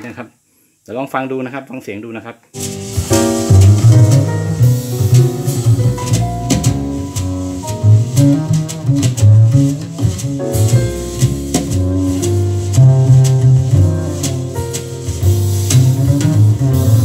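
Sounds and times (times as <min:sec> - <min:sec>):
drums: 0:02.6 - 0:17.0
instrumental music over loudspeakers: 0:02.6 - 0:17.0
strong bass line: 0:02.6 - 0:17.0.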